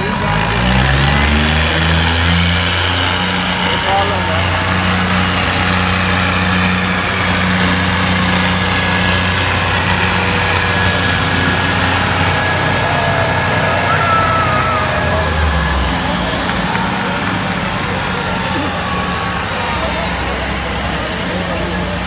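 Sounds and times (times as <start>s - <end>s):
tractor engines under load: 0.0s - 22.0s.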